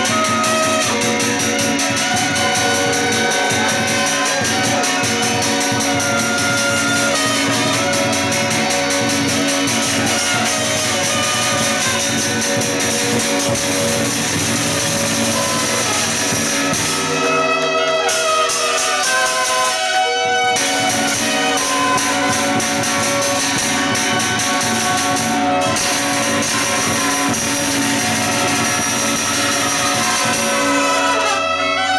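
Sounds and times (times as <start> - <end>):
cymbal strokes: 0.0 - 31.9
drum beats: 0.0 - 31.9
shawms playing shrill melody: 0.0 - 31.9.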